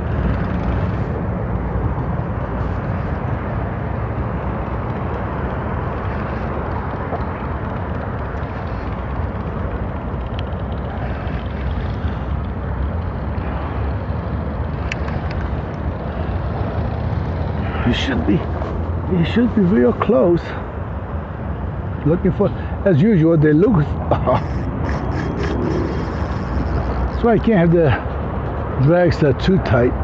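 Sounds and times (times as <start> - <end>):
low rumbling noise: 0.0 - 29.3.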